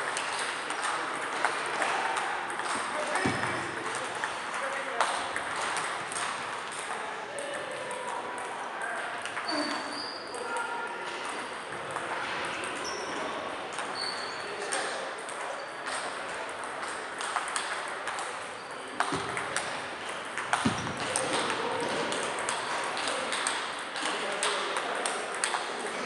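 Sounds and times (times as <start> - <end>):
table tennis balls tapping: 0.0 - 9.9, 11.1 - 26.0.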